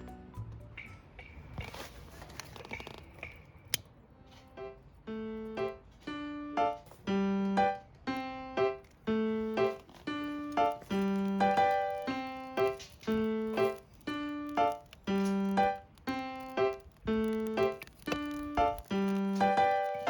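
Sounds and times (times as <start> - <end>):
bouncy piano music: 0.0 - 1.9, 4.4 - 20.0.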